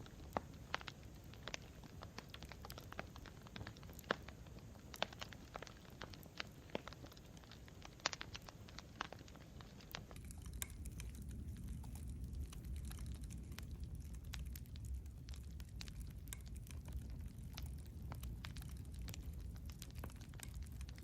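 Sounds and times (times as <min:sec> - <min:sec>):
campfire crackling: 0:00.0 - 0:21.0
sharp pops and snaps: 0:00.0 - 0:21.0.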